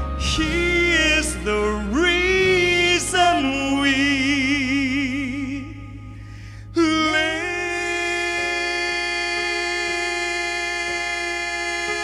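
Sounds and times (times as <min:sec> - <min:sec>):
person singing into microphone: 0:00.0 - 0:06.0, 0:06.8 - 0:12.0
soft musical accompaniment: 0:00.0 - 0:12.0.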